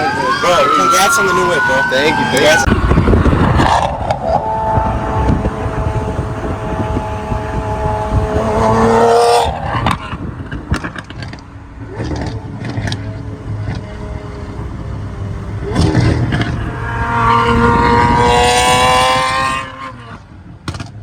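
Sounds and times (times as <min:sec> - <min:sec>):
car engines running: 0:00.0 - 0:21.0
street noise: 0:00.0 - 0:21.0.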